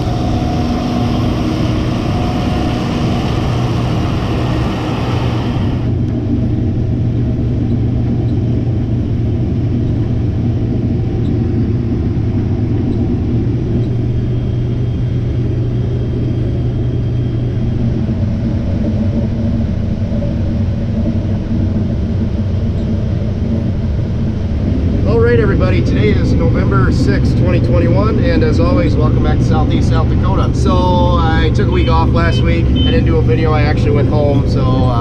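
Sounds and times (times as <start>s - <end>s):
diesel engine droning: 0.0s - 35.0s.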